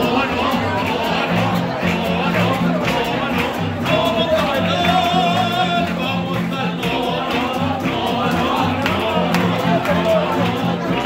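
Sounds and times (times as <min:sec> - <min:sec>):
person singing: 0:00.0 - 0:11.0
strummed guitars: 0:00.0 - 0:11.0.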